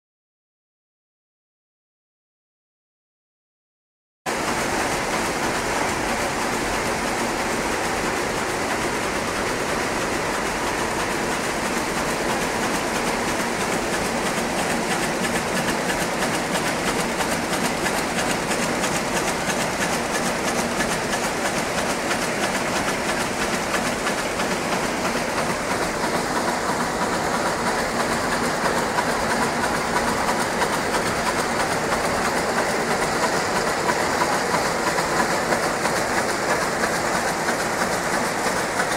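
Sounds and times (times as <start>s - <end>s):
loom mechanical clatter: 4.3s - 38.9s.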